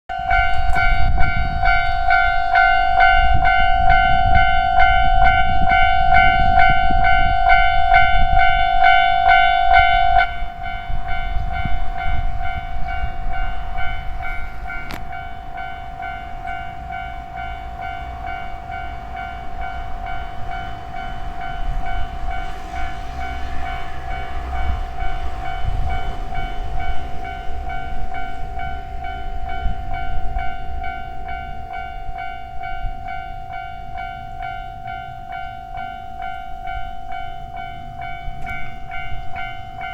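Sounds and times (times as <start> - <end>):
level crossing alarm ringing: 0.1 - 39.9
train rumbling over crossing: 0.1 - 39.9.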